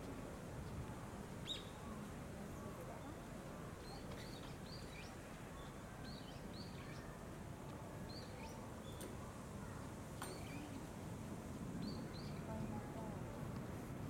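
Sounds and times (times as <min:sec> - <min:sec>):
small birds chirping faintly: 0:00.0 - 0:14.0
steady outdoor background hiss: 0:00.0 - 0:14.0.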